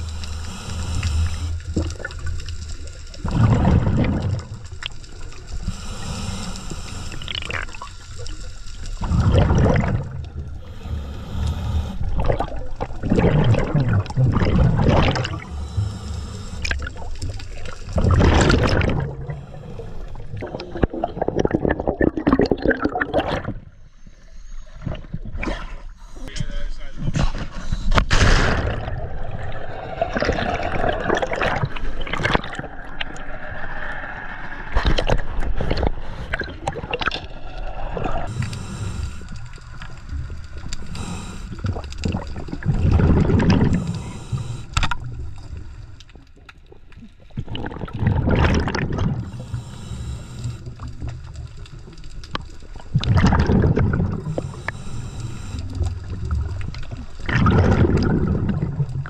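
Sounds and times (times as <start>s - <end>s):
rush of bubbles: 0.0s - 10.9s, 12.0s - 16.0s, 16.6s - 23.7s, 28.1s - 59.0s
underwater exhaled air bubbling: 0.0s - 23.8s, 27.3s - 59.0s.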